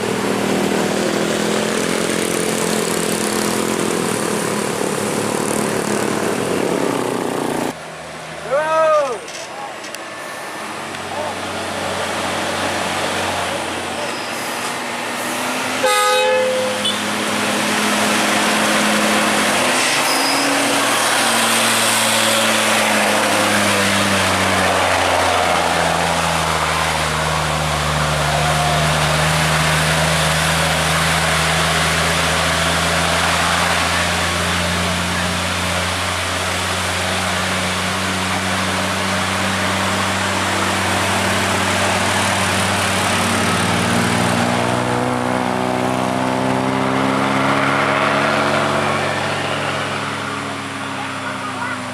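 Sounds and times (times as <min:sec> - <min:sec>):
diesel truck engine labouring: 0:00.0 - 0:51.9.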